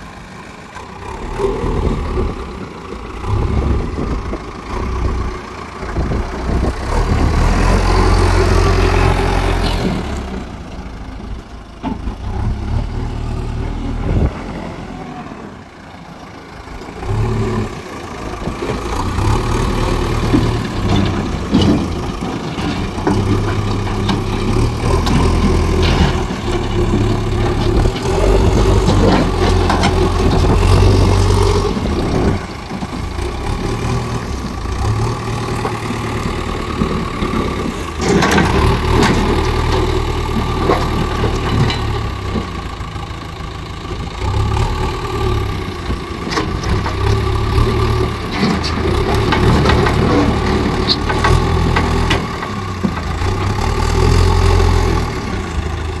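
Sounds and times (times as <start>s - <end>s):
diesel engine under varying load: 0.0s - 56.0s.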